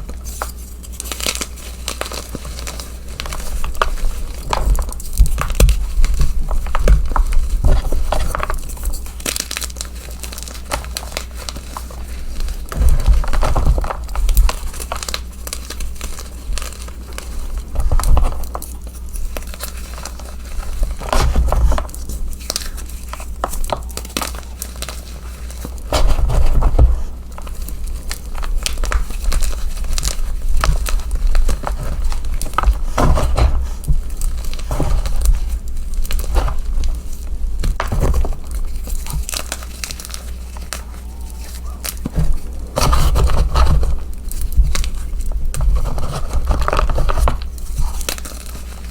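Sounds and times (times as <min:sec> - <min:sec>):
chalk crushed by hand: 0:00.0 - 0:48.9.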